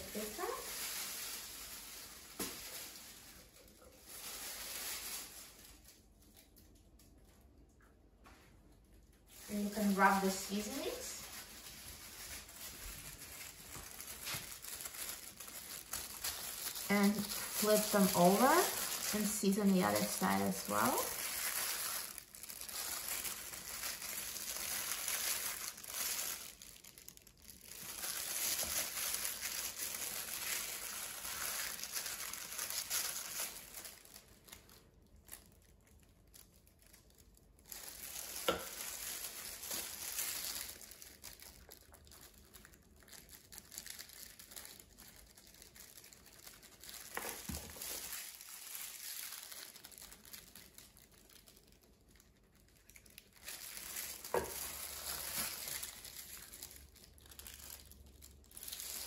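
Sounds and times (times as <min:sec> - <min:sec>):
plastic gloves crinkling: 0:00.0 - 0:59.0.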